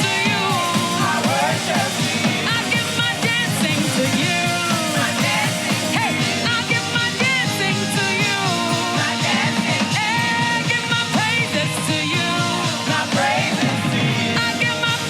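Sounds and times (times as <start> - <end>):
worship band playing gospel: 0.0 - 15.0.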